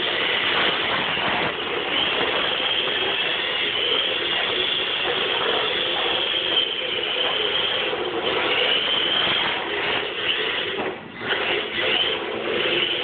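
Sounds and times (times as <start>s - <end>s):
toy car motor and gears whining: 0.0s - 13.0s.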